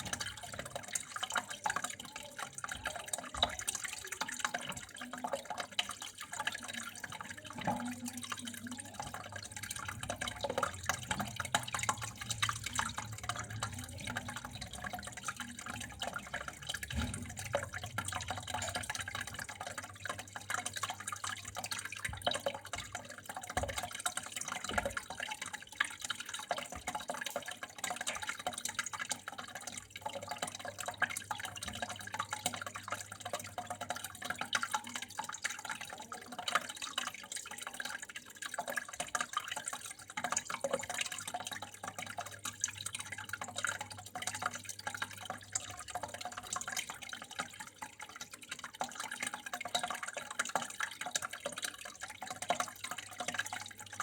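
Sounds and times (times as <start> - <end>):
water flowing and splashing: 0.0 - 54.0.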